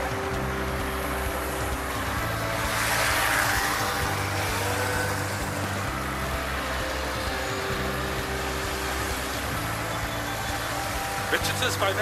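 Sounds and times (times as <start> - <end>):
cars and scooters driving: 0.0 - 12.0.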